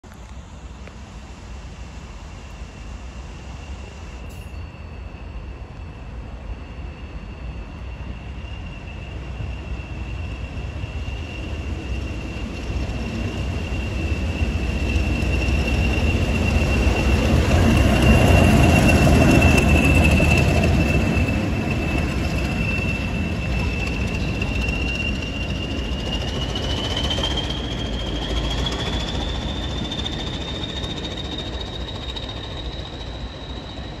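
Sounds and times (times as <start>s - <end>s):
diesel locomotive engine rumble: 0.0s - 34.0s
high turbocharger whistle: 6.6s - 34.0s.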